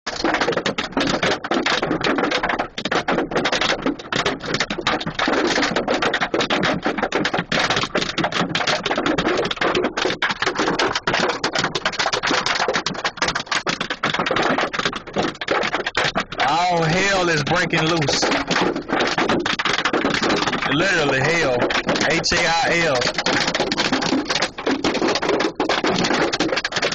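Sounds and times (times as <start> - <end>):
hail hitting a vehicle: 0.1 - 26.9.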